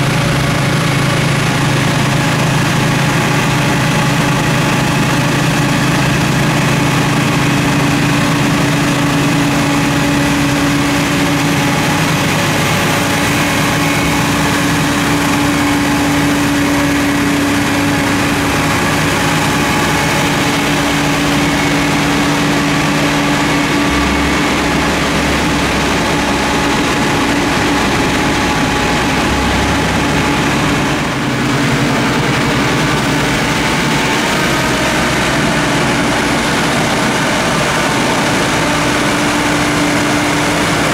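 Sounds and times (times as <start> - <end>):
diesel train engine drone: 0.0 - 40.9.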